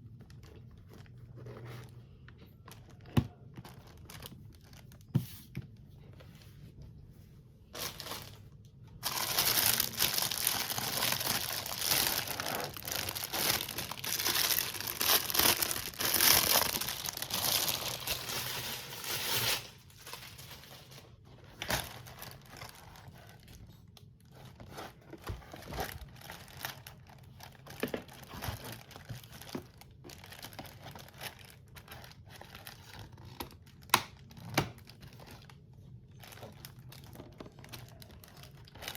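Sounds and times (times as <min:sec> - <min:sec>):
plastic packaging crinkling and tearing: 0:02.7 - 0:05.1, 0:07.7 - 0:38.9.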